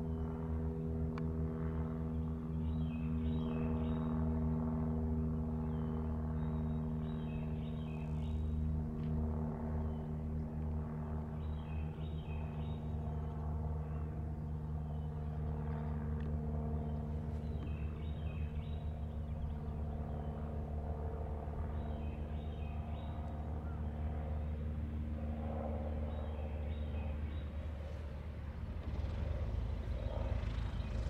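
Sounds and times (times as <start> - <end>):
propeller plane engine running: 0.0 - 31.0.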